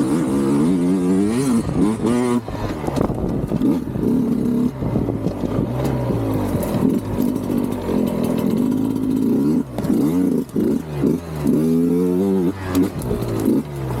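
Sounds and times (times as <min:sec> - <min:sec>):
two-stroke engine revving: 0:00.0 - 0:14.0.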